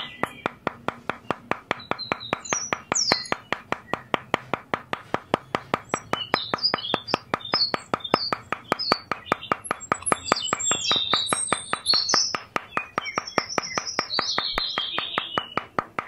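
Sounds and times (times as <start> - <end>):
birds chirping: 0.0 - 16.0
hammer tapping stick: 0.0 - 16.0.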